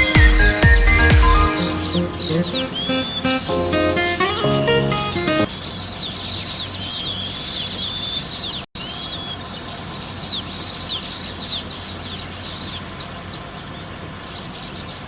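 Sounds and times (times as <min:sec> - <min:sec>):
birds chattering chirps: 0:00.0 - 0:04.4, 0:05.4 - 0:15.0.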